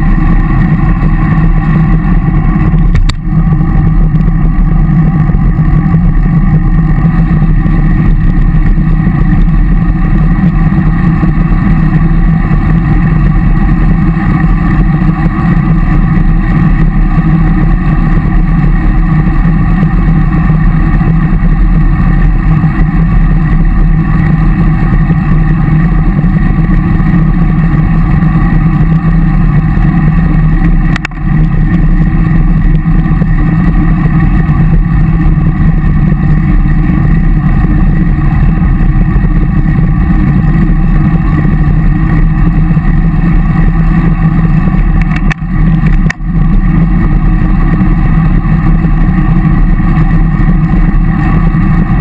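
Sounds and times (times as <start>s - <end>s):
wind and road noise: 0.0s - 52.0s.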